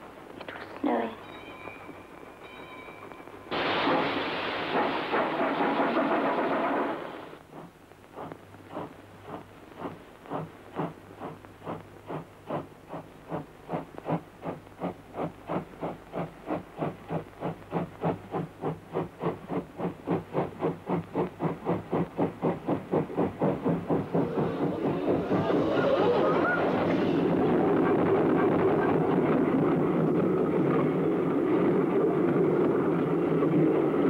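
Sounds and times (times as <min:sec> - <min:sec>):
steam locomotive exhaust chuffs: 0:01.3 - 0:34.0.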